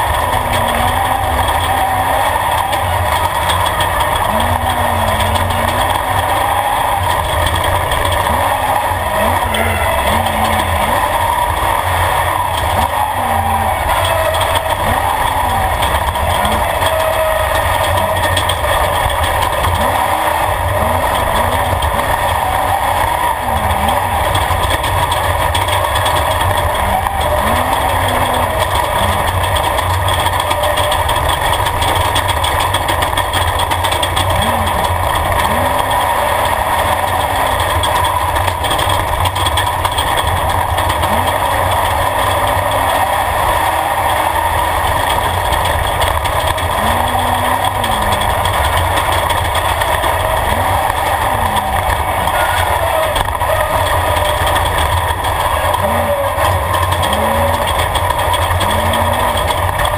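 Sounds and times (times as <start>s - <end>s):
race vehicle engine revving: 0.0s - 59.9s
road and wind noise: 0.0s - 59.9s.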